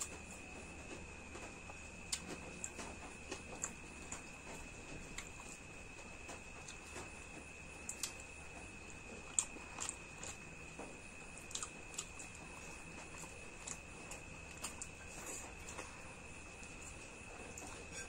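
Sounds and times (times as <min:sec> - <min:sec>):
chewing and biting food: 0:00.0 - 0:18.0.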